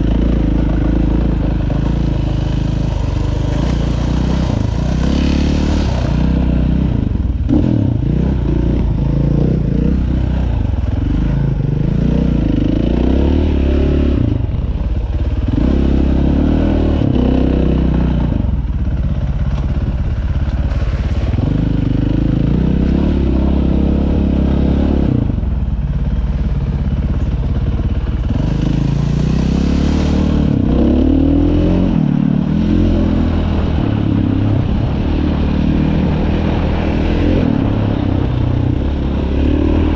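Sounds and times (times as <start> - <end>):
dirt bike engine revving: 0.0 - 14.5, 15.2 - 18.5, 20.7 - 25.4, 28.2 - 39.9.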